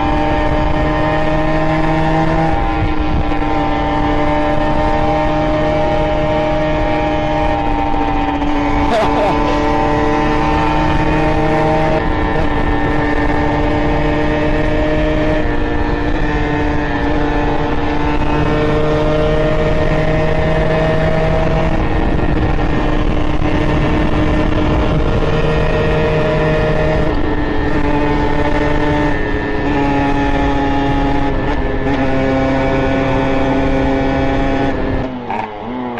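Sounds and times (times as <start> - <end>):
two-stroke engine revving: 0.0 - 35.9.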